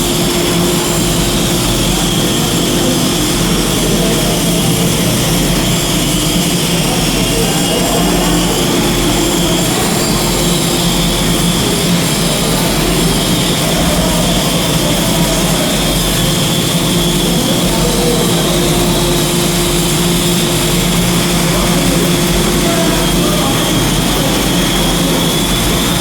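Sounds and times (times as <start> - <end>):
welding arc crackling: 0.0 - 26.0
welding machine hum: 0.0 - 26.0.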